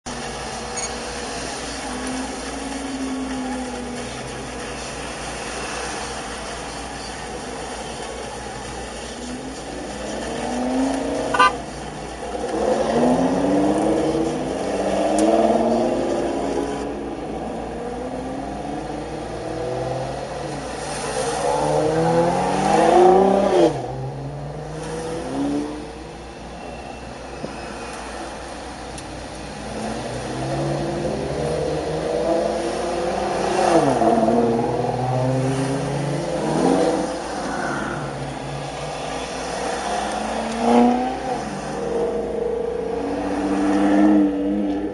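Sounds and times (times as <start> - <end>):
sports car engines revving: 0.0 - 44.9.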